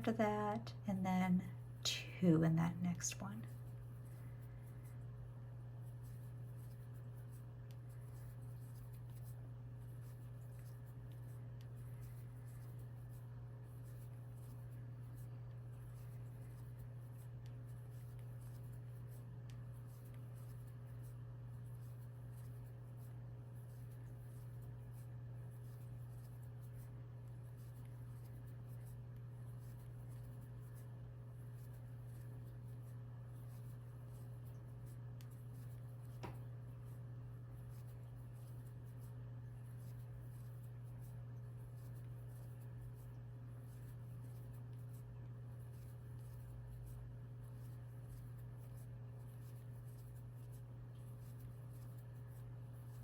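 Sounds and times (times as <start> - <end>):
steady low hum: 0.0 - 53.0
crochet hook scratching yarn: 5.7 - 53.0.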